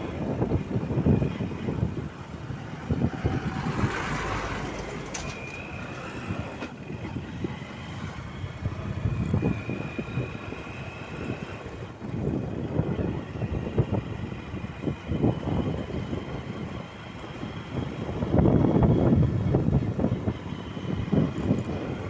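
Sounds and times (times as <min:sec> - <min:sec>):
vehicle road noise rumble: 0:00.0 - 0:22.0
wind buffeting microphone: 0:00.0 - 0:22.0.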